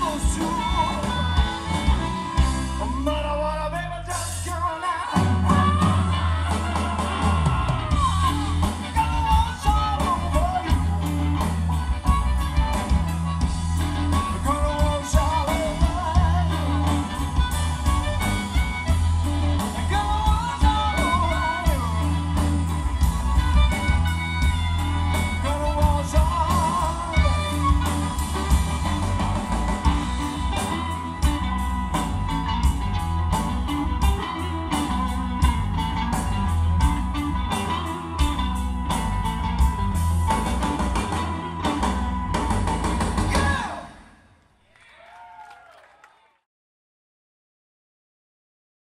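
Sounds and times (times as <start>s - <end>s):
drums keeping a beat: 0.0s - 3.3s, 4.4s - 44.1s
bass guitar: 0.0s - 44.0s
electric guitar lead lines: 0.0s - 44.1s.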